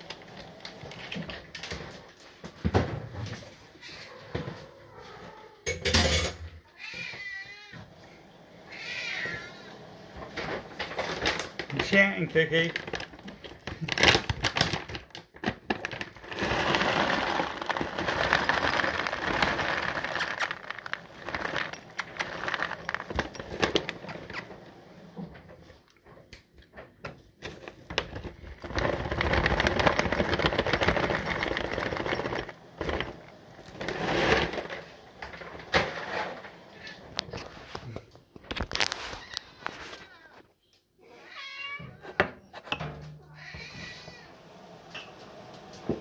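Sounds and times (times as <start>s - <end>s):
cat food rustling and rattling: 0.0s - 7.4s, 8.7s - 40.4s.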